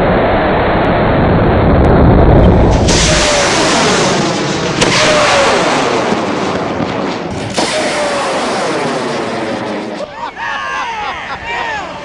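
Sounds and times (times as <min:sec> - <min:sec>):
rocket motor exhaust roar: 0:00.0 - 0:10.1.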